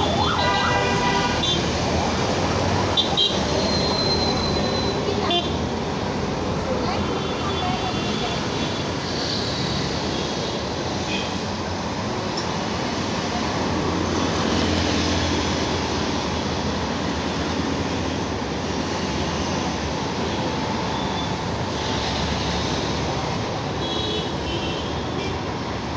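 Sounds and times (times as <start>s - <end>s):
road traffic hum: 0.0s - 25.9s.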